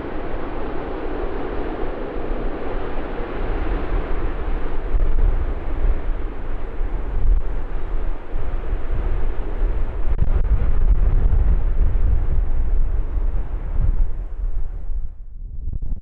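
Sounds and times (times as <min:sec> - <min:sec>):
jet engines running: 0:00.0 - 0:14.8
wind buffeting microphone: 0:00.0 - 0:16.0.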